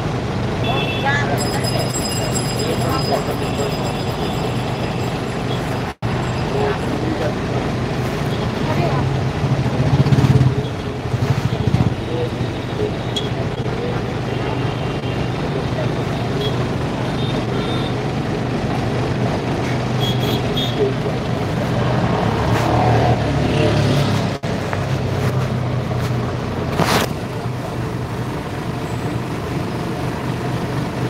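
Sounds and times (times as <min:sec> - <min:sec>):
bus engine drone: 0:00.0 - 0:31.0
road noise: 0:00.0 - 0:31.0.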